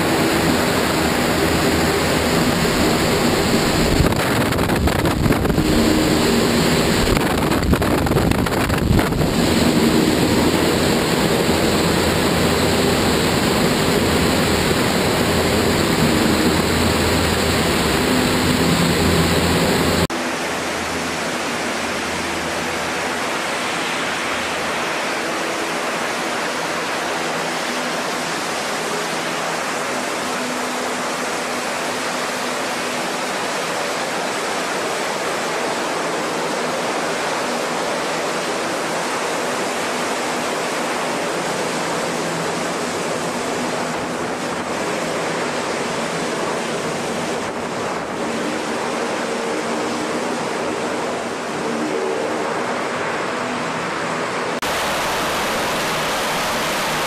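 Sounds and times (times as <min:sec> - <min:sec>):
hovercraft turbines and propellers: 0:00.0 - 0:57.0.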